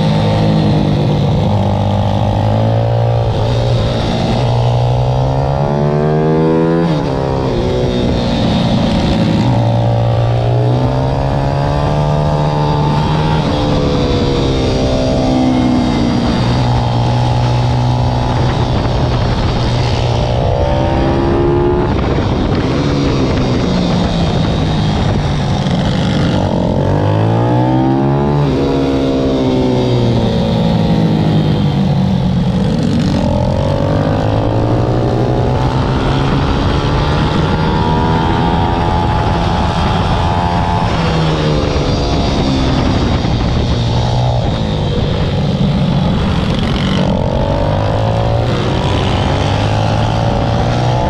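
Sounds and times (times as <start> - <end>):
small motorcycle engine revving: 0.0 - 51.0.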